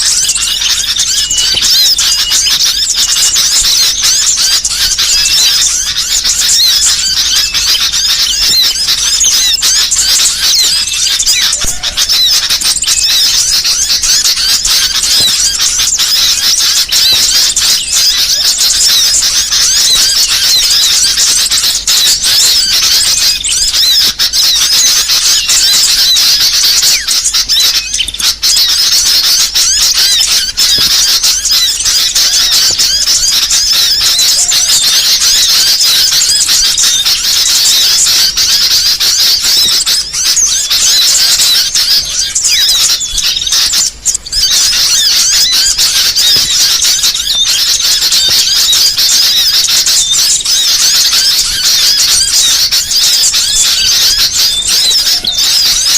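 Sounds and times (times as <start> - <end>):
songbirds chattering and twittering: 0.0 - 55.9.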